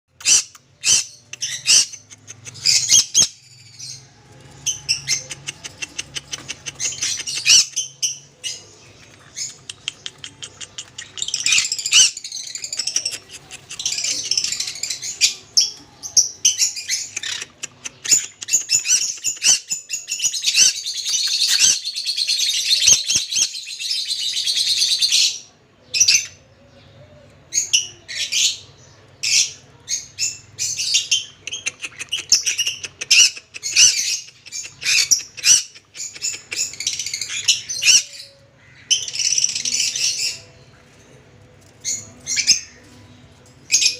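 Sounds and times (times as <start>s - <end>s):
parrot chirping and chattering: 0.1s - 25.4s, 30.2s - 40.5s.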